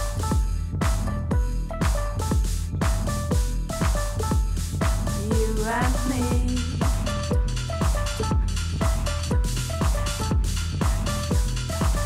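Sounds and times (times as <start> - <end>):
electronic dance music: 1.8 - 12.0.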